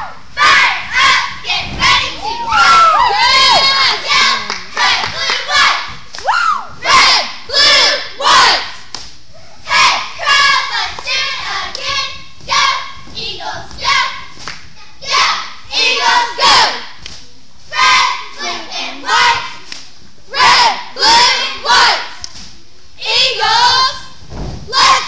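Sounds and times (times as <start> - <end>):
cheerleaders shouting a cheer: 0.0 - 8.9, 9.6 - 17.0, 17.7 - 19.7, 20.3 - 22.2, 23.0 - 24.1, 24.7 - 25.0.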